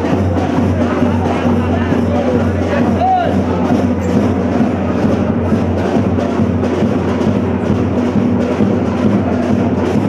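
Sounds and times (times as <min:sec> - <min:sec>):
loud dense drumming: 0:00.0 - 0:10.0.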